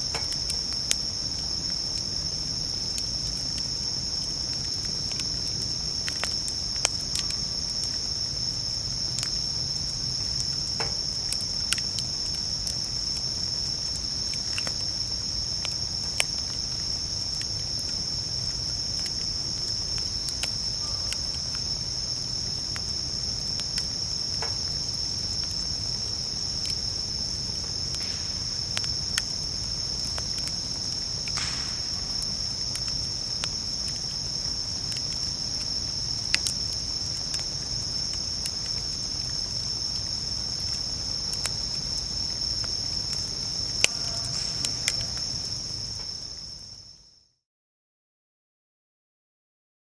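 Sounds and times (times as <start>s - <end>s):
campfire popping and crackling: 0.0s - 46.5s
crickets chirping chorus: 0.0s - 47.3s.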